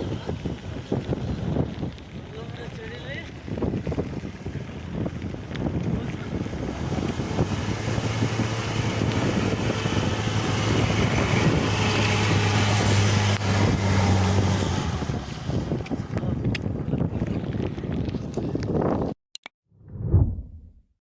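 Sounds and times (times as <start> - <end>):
vehicle engine running under load: 0.0 - 17.7
wind buffeting microphone: 0.0 - 19.2.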